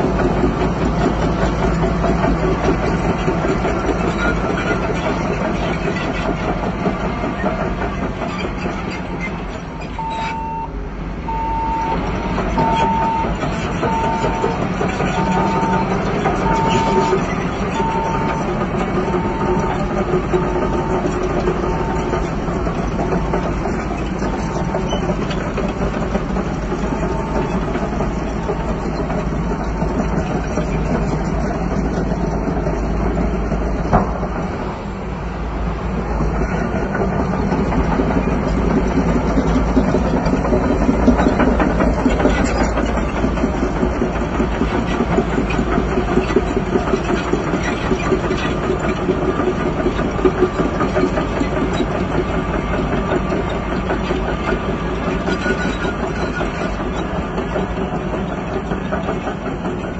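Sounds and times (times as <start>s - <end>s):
bulldozer diesel engine running: 0.0s - 59.9s
clanking tracks: 0.0s - 59.9s.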